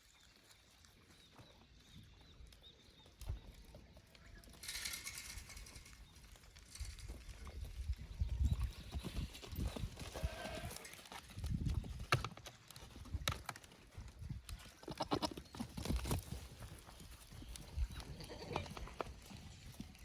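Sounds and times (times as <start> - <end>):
goat hoof steps: 2.6 - 20.0.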